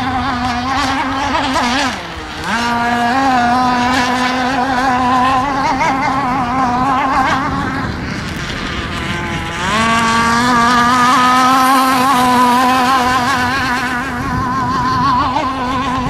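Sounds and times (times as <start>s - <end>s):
two-stroke boat engine revving: 0.0s - 16.0s.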